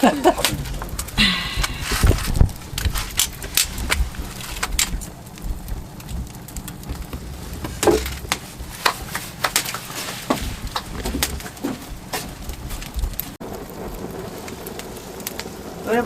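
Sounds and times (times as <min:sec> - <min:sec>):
fire pops and snaps: 0:00.0 - 0:16.0
low fire rumble: 0:00.0 - 0:16.0
wood fire crackling: 0:00.0 - 0:16.0.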